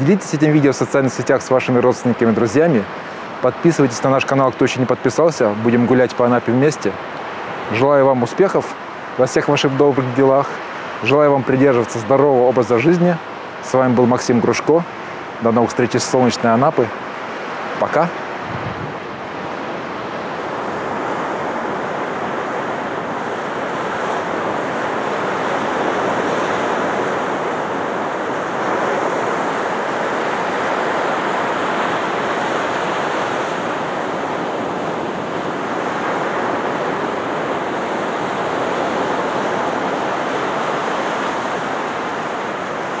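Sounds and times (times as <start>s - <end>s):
surf waves breaking on beach: 0.0s - 43.0s
wind blowing across microphone: 0.0s - 43.0s.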